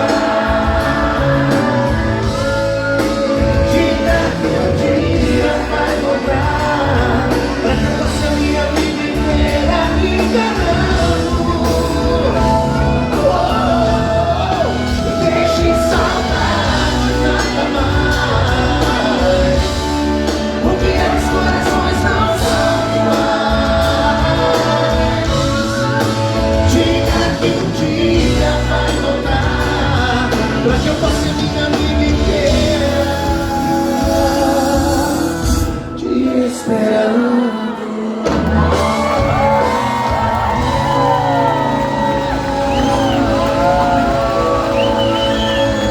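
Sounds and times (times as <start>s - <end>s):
live pop-rock band: 0.0s - 45.9s
person singing: 0.0s - 45.9s.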